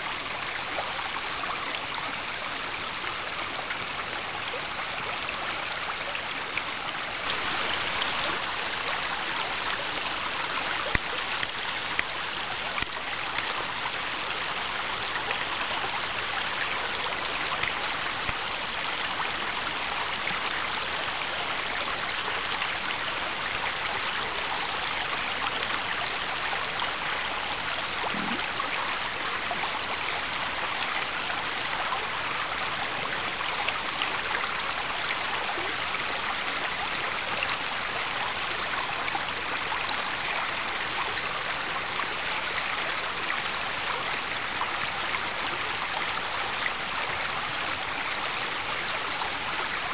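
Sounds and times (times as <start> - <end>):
small waterfall rushing: 0.0 - 49.9.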